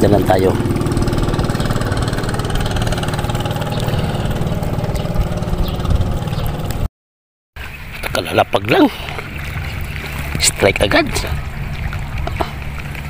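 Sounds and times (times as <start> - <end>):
engine running steadily: 0.0 - 6.9, 8.9 - 13.0.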